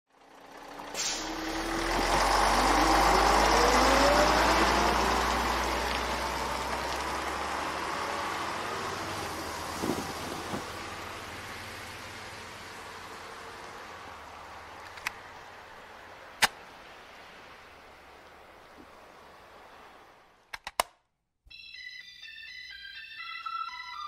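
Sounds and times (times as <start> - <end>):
road vehicle passing: 0.1 - 20.4.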